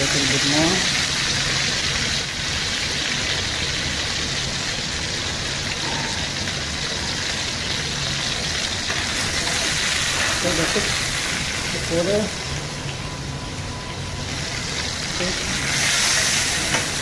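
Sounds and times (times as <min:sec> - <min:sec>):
chicken sizzling in frying pan: 0:00.0 - 0:13.3, 0:14.2 - 0:17.0.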